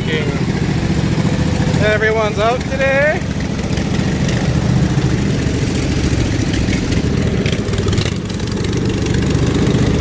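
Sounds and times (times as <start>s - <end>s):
mower engine running: 0.0s - 10.0s.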